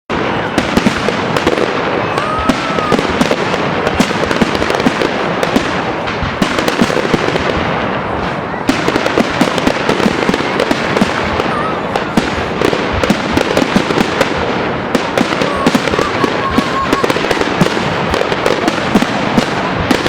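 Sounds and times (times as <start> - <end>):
fireworks bangs and crackling: 0.1 - 20.0.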